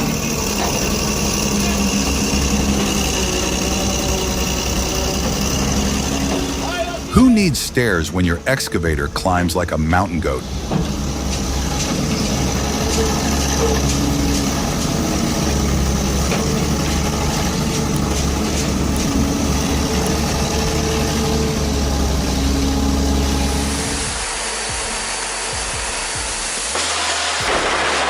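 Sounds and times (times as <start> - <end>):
excavator engine running: 0.0 - 26.7.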